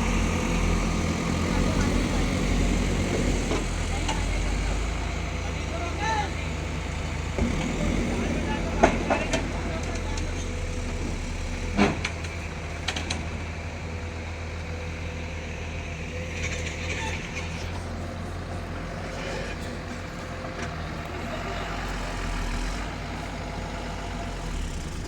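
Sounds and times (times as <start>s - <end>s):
heavy diesel engines running: 0.0s - 25.0s.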